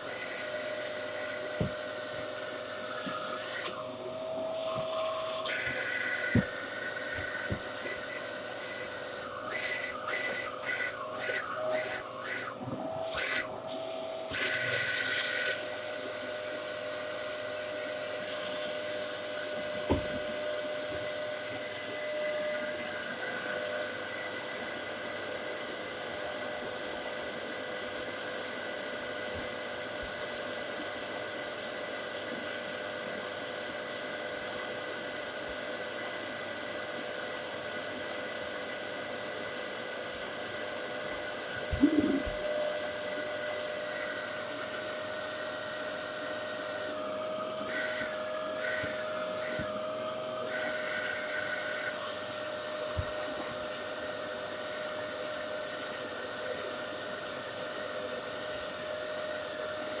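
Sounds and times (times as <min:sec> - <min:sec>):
vacuum cleaner running: 0:00.0 - 1:00.0.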